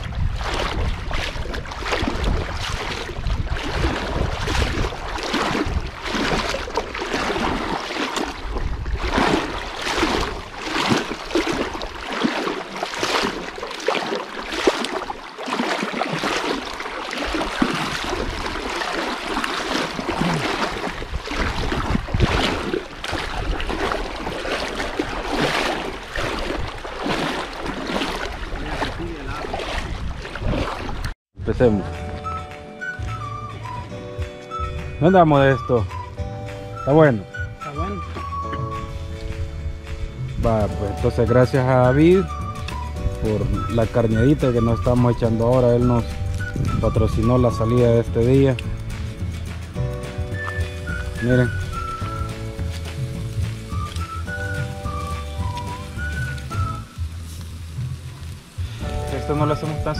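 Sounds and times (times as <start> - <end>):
river water rushing and splashing: 0.0 - 31.2, 40.8 - 59.9.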